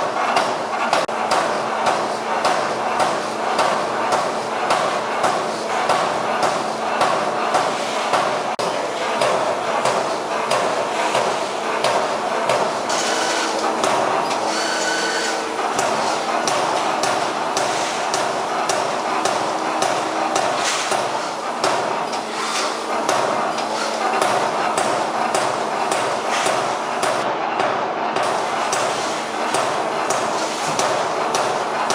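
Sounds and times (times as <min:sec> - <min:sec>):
machine hum: 0:02.4 - 0:28.2.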